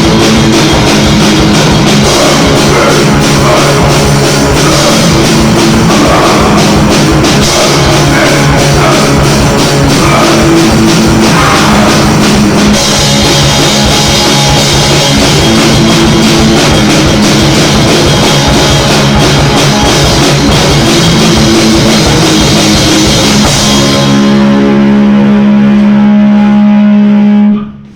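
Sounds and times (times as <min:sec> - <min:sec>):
drum kit with crashing cymbals: 0:00.0 - 0:24.8
distorted electric guitar chords: 0:00.0 - 0:27.9.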